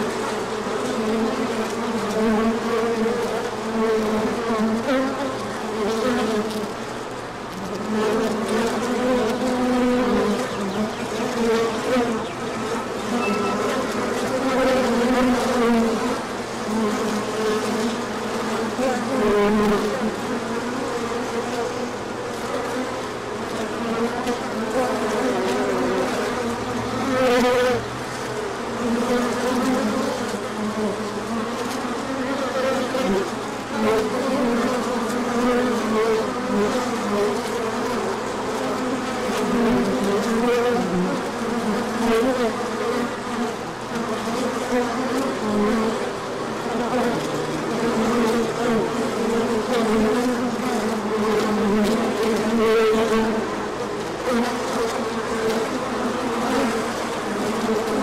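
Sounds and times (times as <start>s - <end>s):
bees buzzing: 0.0s - 58.0s.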